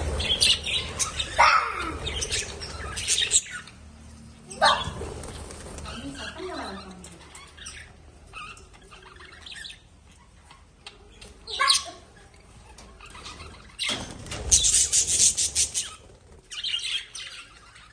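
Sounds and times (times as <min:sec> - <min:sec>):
lovebirds chirping: 0:00.0 - 0:17.9.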